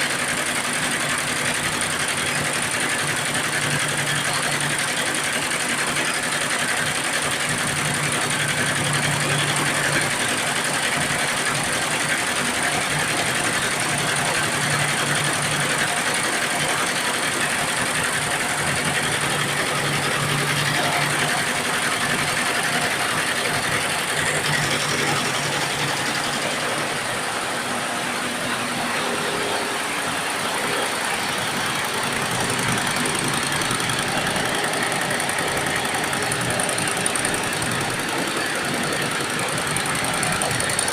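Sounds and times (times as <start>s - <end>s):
embroidery machine stitching: 0.0s - 27.7s, 28.4s - 40.9s.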